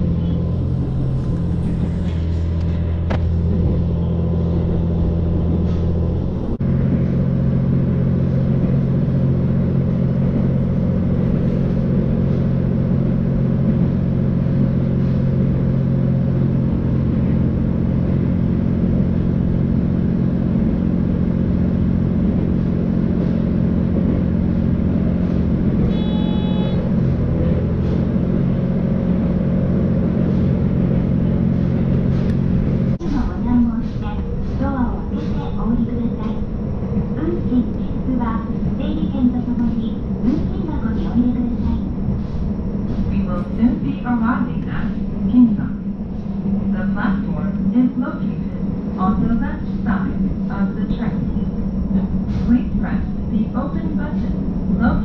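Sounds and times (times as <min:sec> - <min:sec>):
railcar diesel engine drone: 0:00.0 - 0:55.0.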